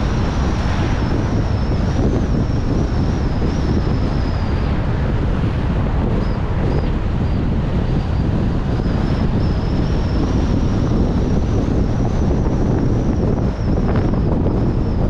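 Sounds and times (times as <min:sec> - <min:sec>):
car driving road noise: 0:00.0 - 0:15.0
wind buffeting microphone: 0:00.0 - 0:15.0.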